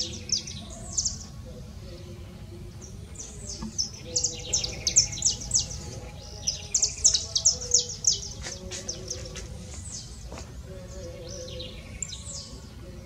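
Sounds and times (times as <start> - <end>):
finch chirping: 0.0 - 13.0.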